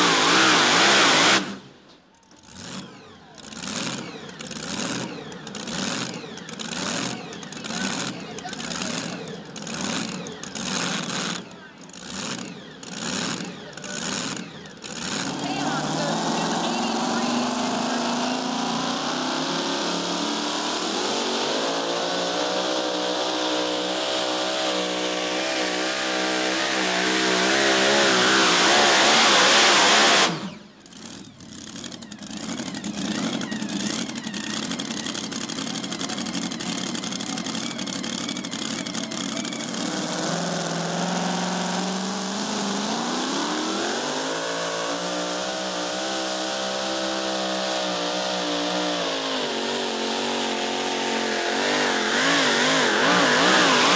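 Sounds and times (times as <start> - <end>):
engines running steadily: 0.0 - 53.9
truck engine running hard: 0.0 - 53.9.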